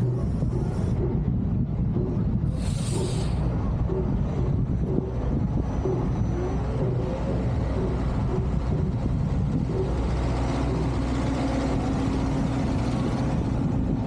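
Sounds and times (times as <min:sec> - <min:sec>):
low vehicle engine rumble: 0:00.0 - 0:14.0.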